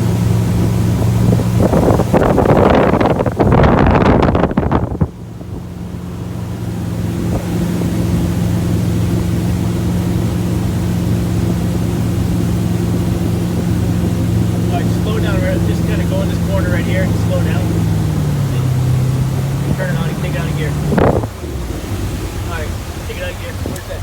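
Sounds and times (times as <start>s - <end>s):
boat engine humming: 0.0s - 24.0s
wind and water rushing: 0.0s - 24.0s.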